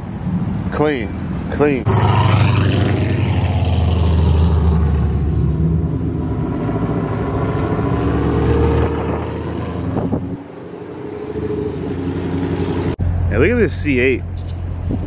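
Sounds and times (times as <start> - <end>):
car engine and exhaust passing: 0.0 - 15.0.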